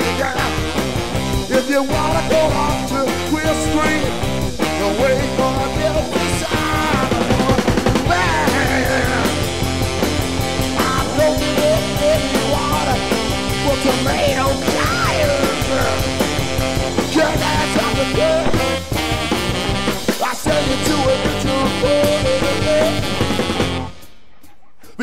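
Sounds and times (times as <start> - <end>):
rock song with steady beat: 0.0 - 25.0.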